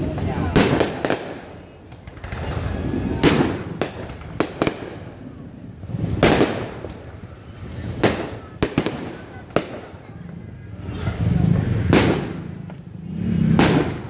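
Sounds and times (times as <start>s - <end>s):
fireworks bangs: 0.0s - 14.0s
rolling rumble: 0.0s - 14.0s.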